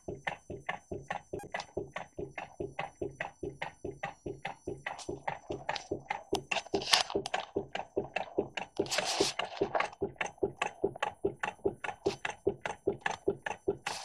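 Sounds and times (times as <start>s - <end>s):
small engine clicking: 0.2s - 14.0s.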